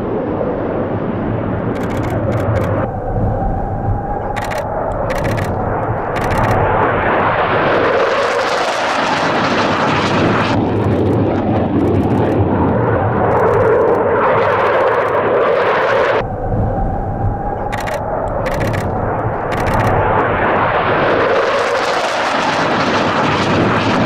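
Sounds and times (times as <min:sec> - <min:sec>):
fighter jets passing: 0:00.0 - 0:24.0.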